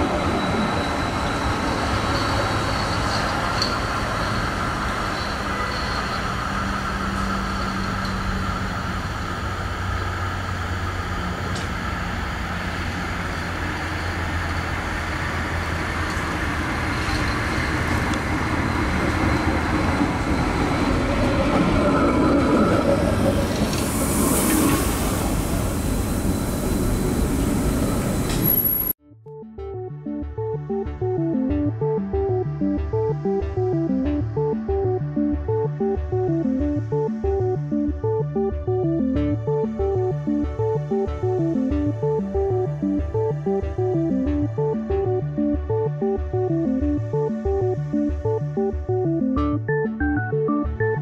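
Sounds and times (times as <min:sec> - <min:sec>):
tram running along rails: 0:00.0 - 0:29.0, 0:30.6 - 0:51.0.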